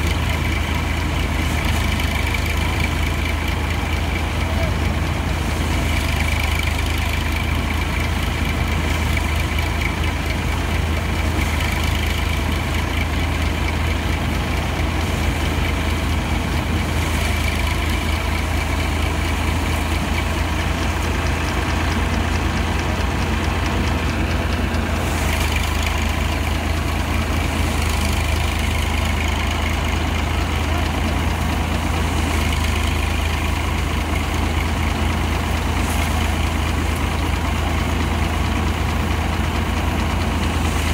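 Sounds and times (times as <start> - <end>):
threshing machine: 0.0 - 40.9
tractor engine running: 0.0 - 40.9.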